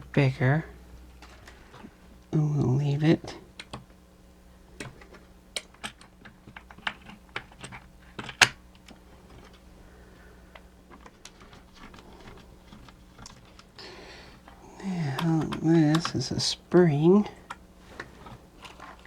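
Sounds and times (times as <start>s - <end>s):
small parts clicking and tapping: 1.2s - 2.0s, 3.5s - 4.0s, 4.8s - 19.0s.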